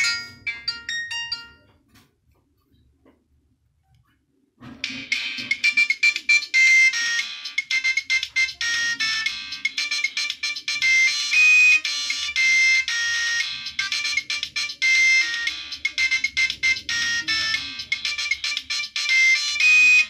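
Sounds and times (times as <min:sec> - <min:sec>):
phone ringtone melody: 0:00.0 - 0:01.7, 0:04.8 - 0:20.0.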